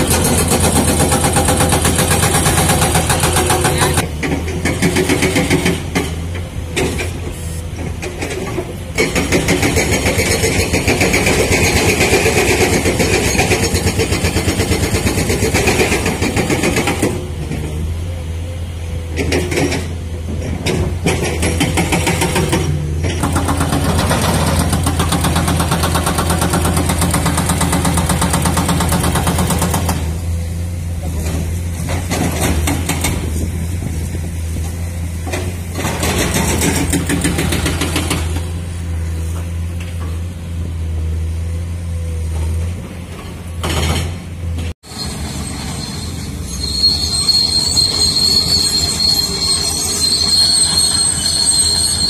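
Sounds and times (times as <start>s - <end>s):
diesel engine running under load: 0.0s - 46.4s.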